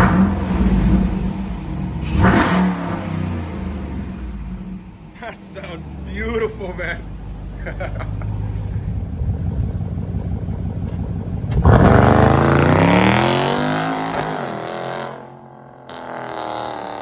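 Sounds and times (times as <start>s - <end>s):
car engine revving under acceleration: 0.0s - 15.3s.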